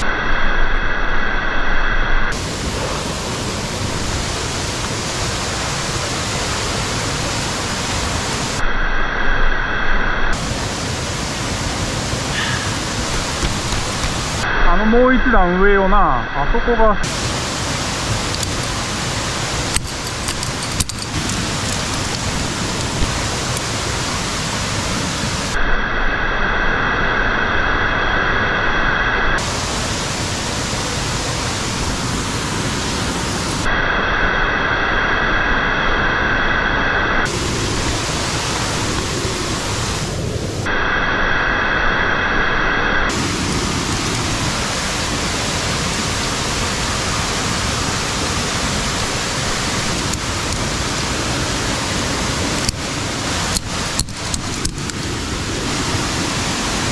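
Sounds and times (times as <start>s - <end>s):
waterfall roaring: 2.3s - 8.6s, 10.3s - 25.7s, 27.8s - 56.9s.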